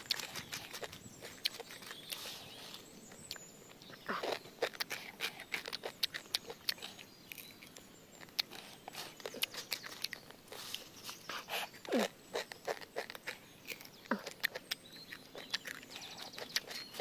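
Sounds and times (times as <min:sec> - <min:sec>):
crunching dry noodles: 0:00.0 - 0:17.0.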